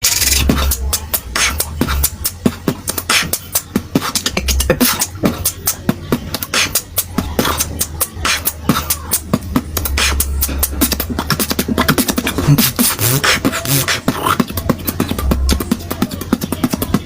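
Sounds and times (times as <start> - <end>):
person beatboxing: 0.0 - 17.0.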